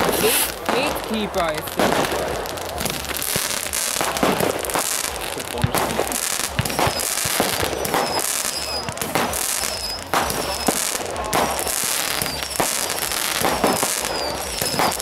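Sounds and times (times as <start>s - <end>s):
fireworks bangs: 0.0s - 15.0s
fireworks crackling: 0.0s - 15.0s
fireworks whistles: 0.0s - 15.0s.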